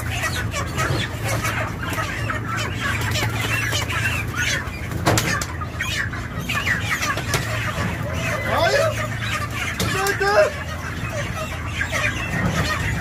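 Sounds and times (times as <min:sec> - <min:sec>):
chickens squawking and clucking: 0:00.0 - 0:13.0.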